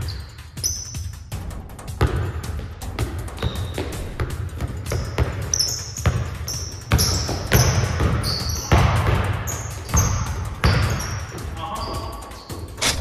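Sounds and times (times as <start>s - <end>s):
basketball dribbling on court: 0.0s - 13.0s
sneakers squeaking on floor: 0.0s - 13.0s.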